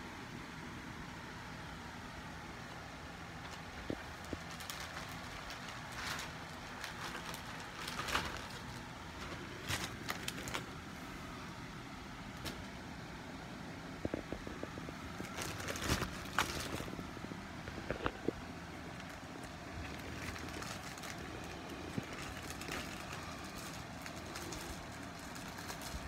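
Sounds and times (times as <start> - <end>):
steady low rumble: 0.0 - 26.0
plastic bags rustling and clicking: 3.2 - 11.4, 12.2 - 13.1, 14.0 - 26.0.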